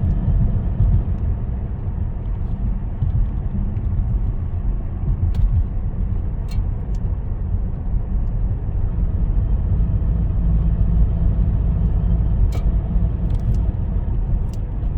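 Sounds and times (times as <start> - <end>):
car engine rumble: 0.0 - 14.9.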